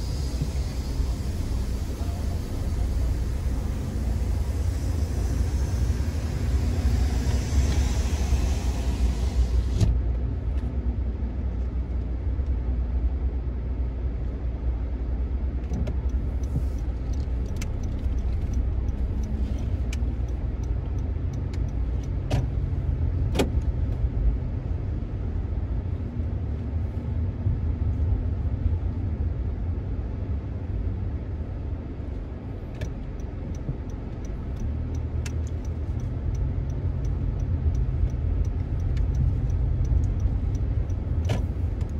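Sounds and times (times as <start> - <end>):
engine and road rumble: 0.0 - 41.9.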